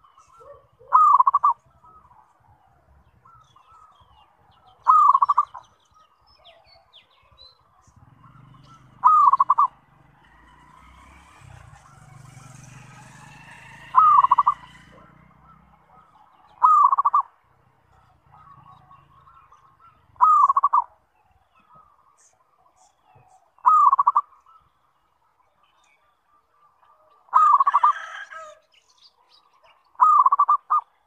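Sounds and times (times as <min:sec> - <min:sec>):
dove cooing with trill: 0:00.0 - 0:10.6, 0:11.3 - 0:21.0, 0:21.6 - 0:24.7, 0:26.3 - 0:28.6, 0:29.9 - 0:31.0.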